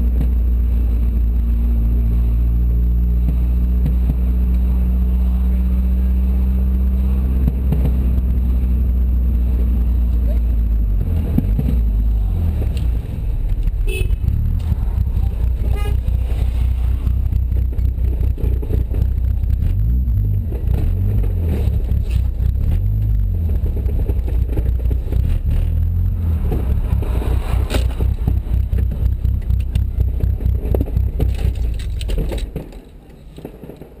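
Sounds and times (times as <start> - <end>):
car engine and exhaust drone: 0.0 - 34.0
road rumble: 0.0 - 34.0.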